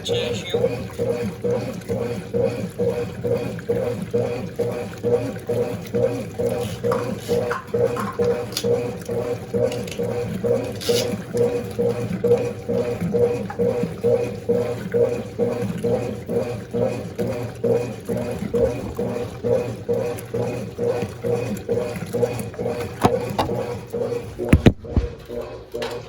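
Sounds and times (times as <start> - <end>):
water sloshing: 0.0 - 25.5
washing machine motor humming: 0.0 - 26.0.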